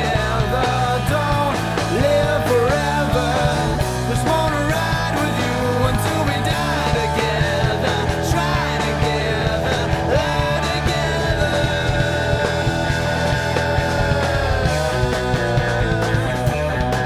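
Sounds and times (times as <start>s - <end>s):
person singing: 0.0s - 16.4s
rock band playing: 0.0s - 17.0s.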